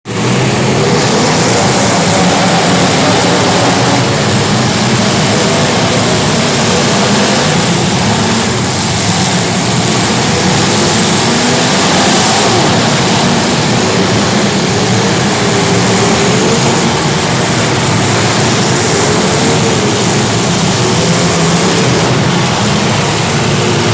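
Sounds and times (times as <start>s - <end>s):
race car engines droning: 0.0s - 23.9s.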